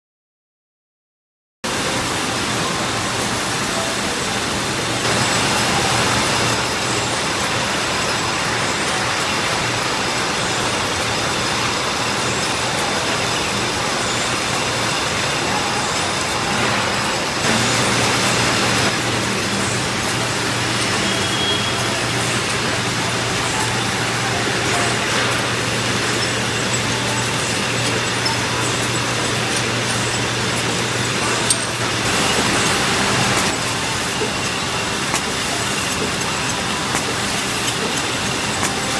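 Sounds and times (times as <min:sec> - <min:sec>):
packaging line machinery running: 0:01.7 - 0:38.9.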